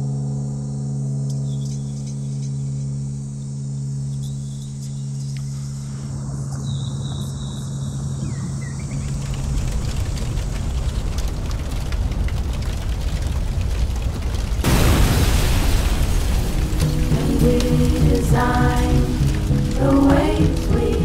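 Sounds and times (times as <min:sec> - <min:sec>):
low crackling rumble: 0:00.0 - 0:21.0.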